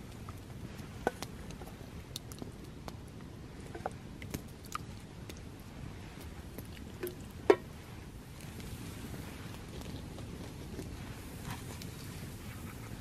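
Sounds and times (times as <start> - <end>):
campfire wood crackling: 0.0 - 13.0.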